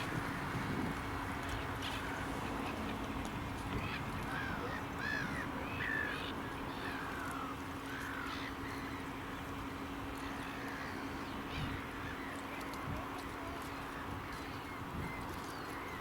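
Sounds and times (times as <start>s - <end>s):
steady low hum: 0.0s - 16.0s
gulls calling: 1.5s - 16.0s.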